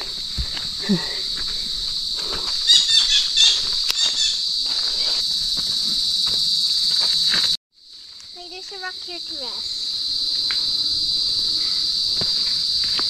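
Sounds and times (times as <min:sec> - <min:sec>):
footsteps on dirt trail: 0:00.0 - 0:13.0
insect chorus: 0:00.0 - 0:13.0.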